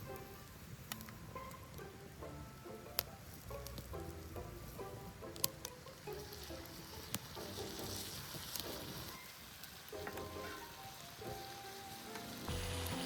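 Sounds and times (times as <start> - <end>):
pork sizzling in a frying pan: 0.0 - 13.0
sharp popping from the pan: 0.0 - 13.0
soft background music: 0.0 - 13.0.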